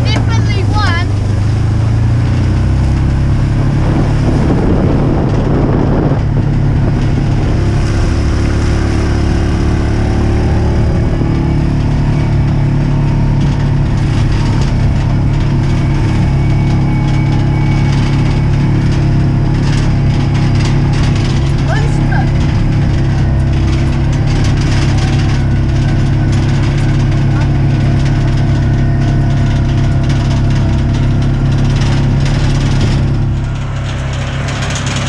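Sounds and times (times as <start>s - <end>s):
farm vehicle engine running: 0.0s - 35.0s.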